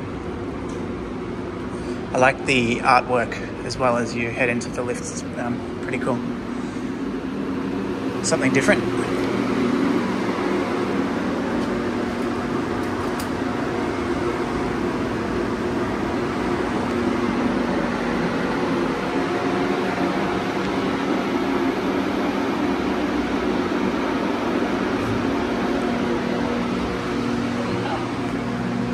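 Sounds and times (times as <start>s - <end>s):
steady mechanical hum: 0.0s - 28.9s.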